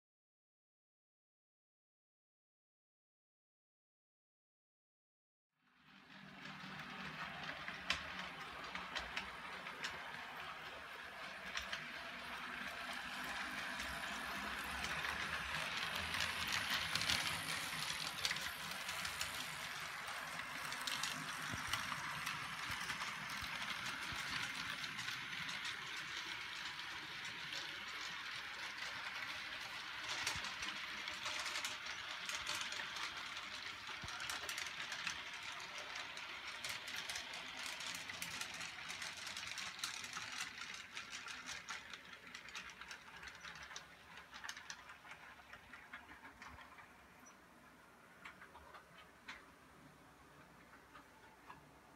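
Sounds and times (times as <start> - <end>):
model train rolling on track: 5.7 - 51.9.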